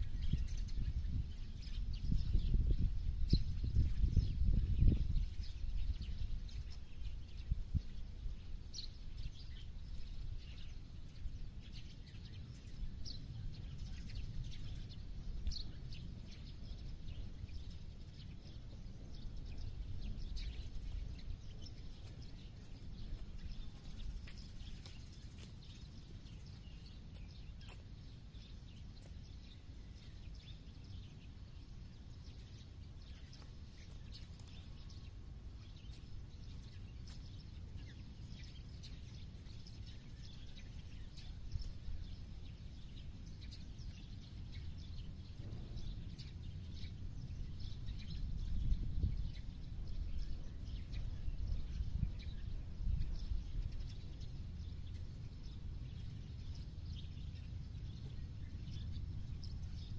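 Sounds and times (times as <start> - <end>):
birds chirping: 0.0 - 59.9
low outdoor rumble: 0.0 - 59.9.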